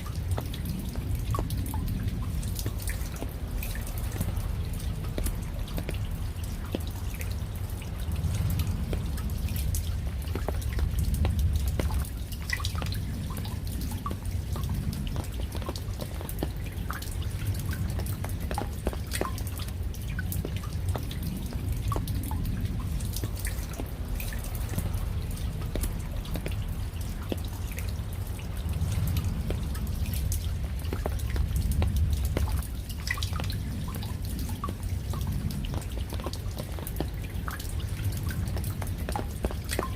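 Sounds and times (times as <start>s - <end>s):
low rumble: 0.0s - 39.8s
raindrops dripping: 0.0s - 39.9s.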